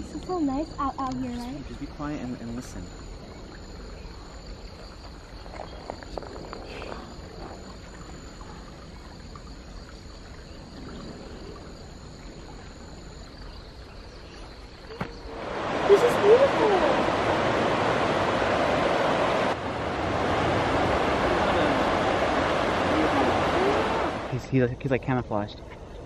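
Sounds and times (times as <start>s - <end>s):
steady high-pitched tones: 0.0s - 4.8s, 6.4s - 26.0s
low even hiss: 0.0s - 26.0s.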